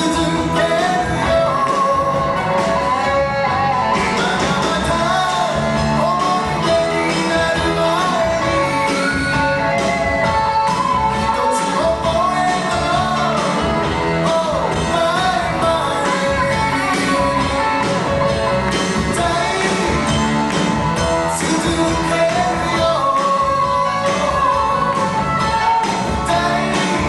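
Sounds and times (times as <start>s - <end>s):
drums: 0.0s - 27.0s
guitars playing: 0.0s - 27.0s
man singing lead: 0.0s - 27.0s.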